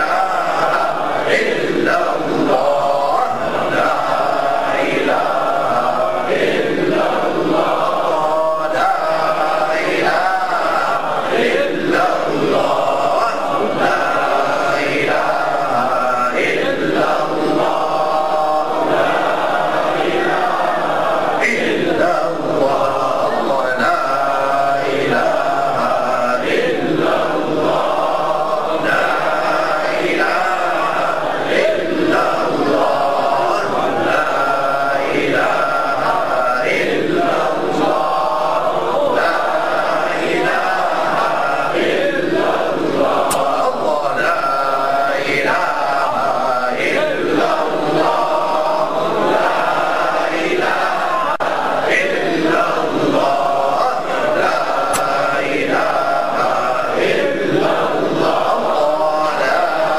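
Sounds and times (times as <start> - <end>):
men chanting in unison: 0.0 - 59.9.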